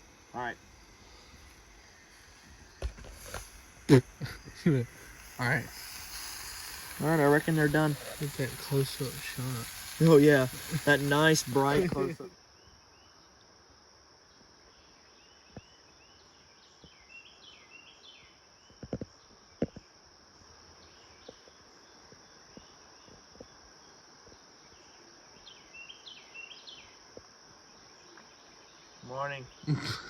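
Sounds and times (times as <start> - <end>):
insects trilling: 0.0 - 13.4, 14.6 - 30.0.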